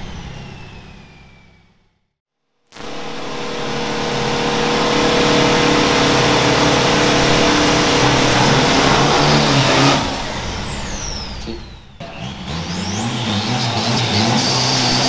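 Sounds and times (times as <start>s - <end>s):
truck engine revving high: 2.8s - 15.0s
tyres spinning on tarmac: 2.8s - 15.0s.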